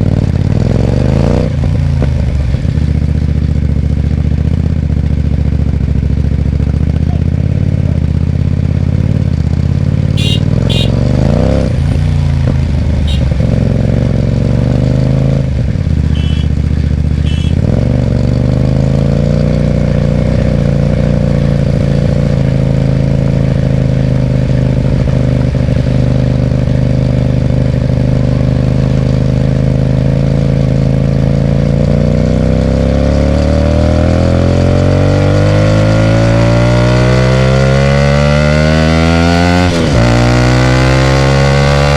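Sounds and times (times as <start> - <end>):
motorcycle engine riding: 0.0 - 41.9.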